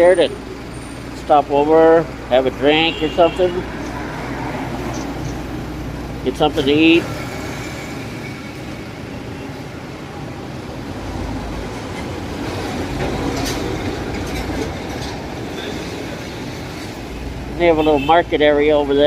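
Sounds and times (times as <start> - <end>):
vehicle and road rumble: 0.0 - 19.0.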